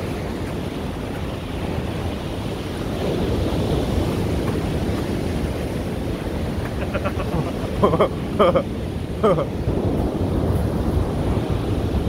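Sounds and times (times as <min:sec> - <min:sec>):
sea surf breaking on rocks: 0:00.0 - 0:12.0
wind on microphone: 0:00.0 - 0:12.0.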